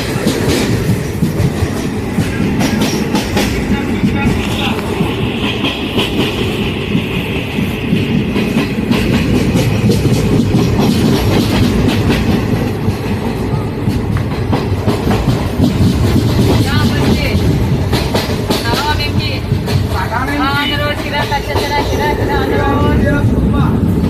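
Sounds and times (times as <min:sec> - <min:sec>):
train rumbling on track: 0:00.0 - 0:24.0
wheels clacking over rail joints: 0:00.0 - 0:24.0.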